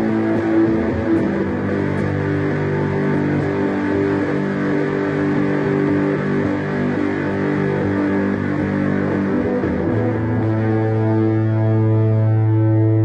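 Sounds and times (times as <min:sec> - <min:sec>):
electric guitar ringing chords: 0:00.0 - 0:13.0.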